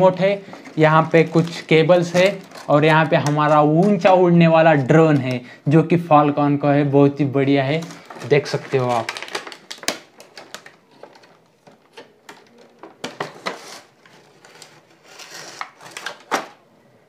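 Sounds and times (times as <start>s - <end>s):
plastic packaging crinkling: 0.0s - 5.5s, 7.5s - 16.6s.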